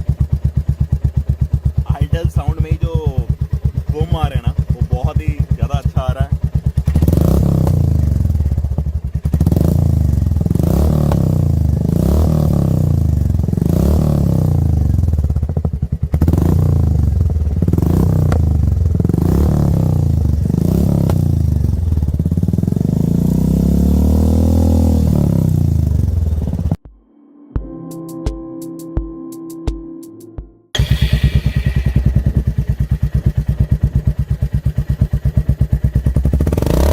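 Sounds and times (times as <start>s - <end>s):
motorcycle engine revving: 0.0s - 26.8s, 30.8s - 36.9s.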